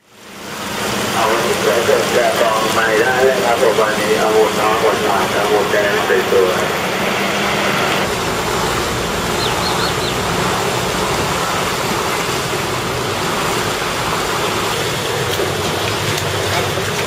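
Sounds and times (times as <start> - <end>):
seawater rushing over curb: 0.2 - 17.0.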